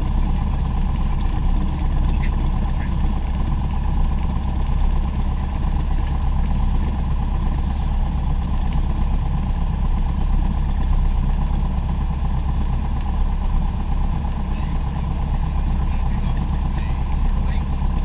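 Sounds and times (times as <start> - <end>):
aircraft cabin drone: 0.0 - 18.0.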